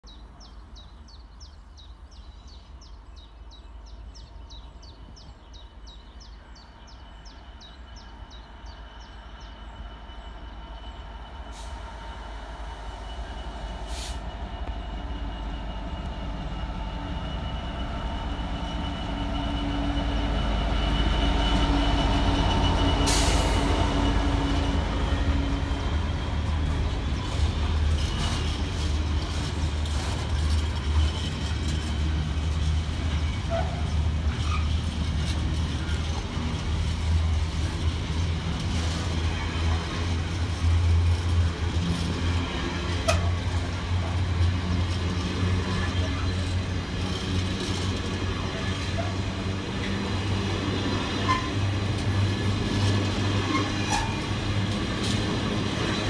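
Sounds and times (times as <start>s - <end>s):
diesel locomotive passing: 0.1s - 56.0s.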